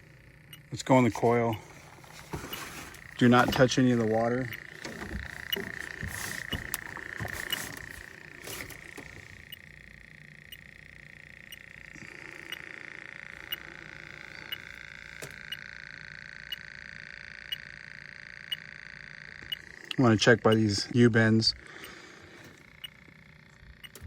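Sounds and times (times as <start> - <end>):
leak detector ticking: 0.0 - 24.0
steady high-pitched hum: 0.0 - 24.0.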